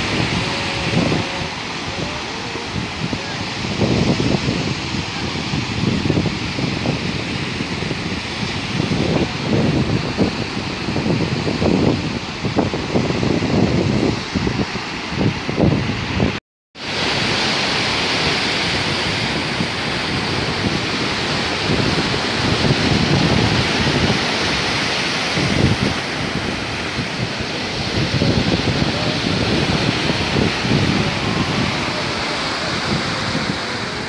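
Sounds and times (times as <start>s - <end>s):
surf breaking over rocks: 0.0s - 34.0s.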